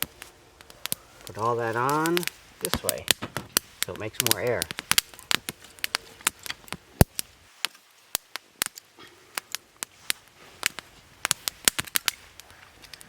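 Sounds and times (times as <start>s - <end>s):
fire crackling and snapping: 0.0s - 13.0s.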